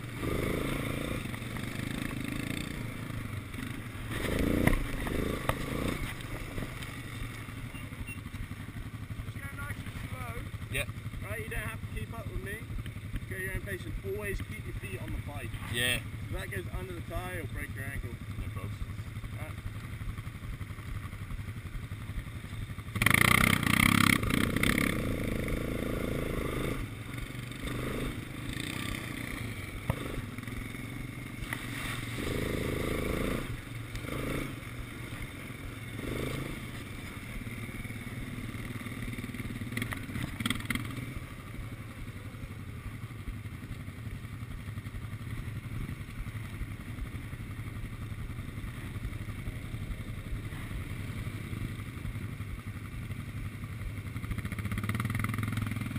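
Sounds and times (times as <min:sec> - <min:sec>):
quad bike engine revving: 0:00.0 - 0:42.8, 0:53.8 - 0:55.9.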